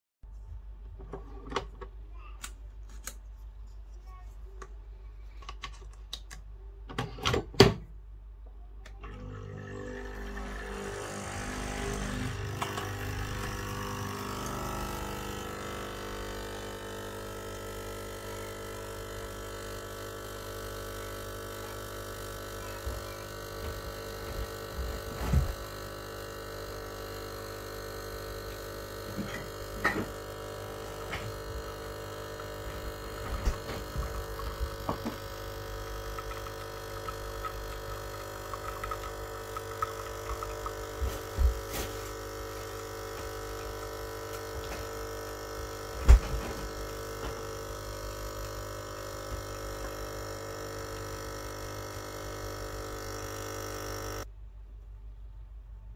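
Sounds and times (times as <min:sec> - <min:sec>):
coffee machine pump buzzing: 0:08.8 - 0:54.3.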